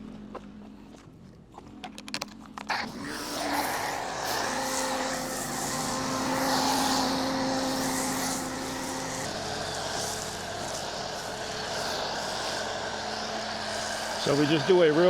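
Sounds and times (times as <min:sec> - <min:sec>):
pressure washer hum: 0:02.7 - 0:15.0
water spray hiss: 0:02.8 - 0:15.0.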